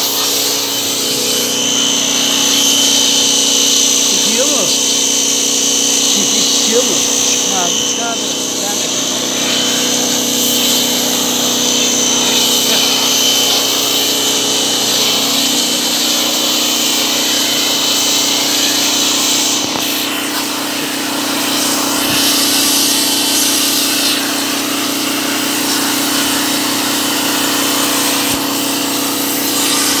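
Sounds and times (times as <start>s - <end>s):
pressure washer motor hum: 0.0s - 30.0s
water jet hissing: 0.0s - 30.0s.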